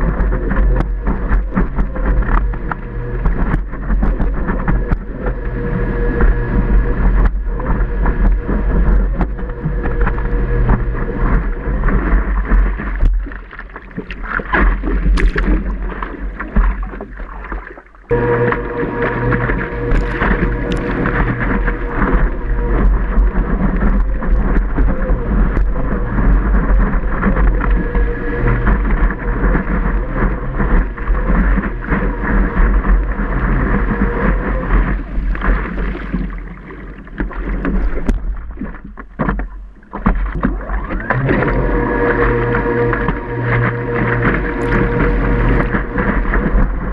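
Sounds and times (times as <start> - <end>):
electric jet drive whine: 0.0 - 17.2, 18.0 - 38.2, 38.9 - 46.9
wind buffeting microphone: 0.0 - 17.2, 18.1 - 39.2
water rushing and splashing: 0.0 - 46.9.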